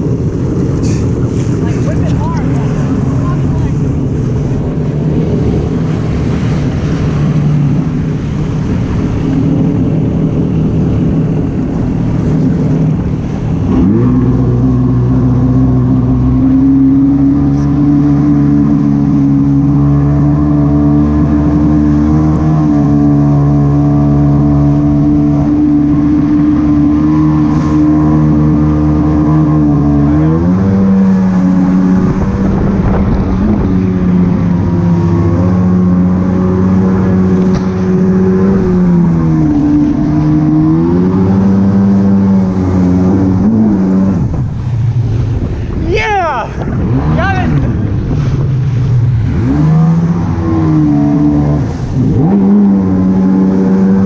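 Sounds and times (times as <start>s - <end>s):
jet ski engine: 0.0s - 54.0s.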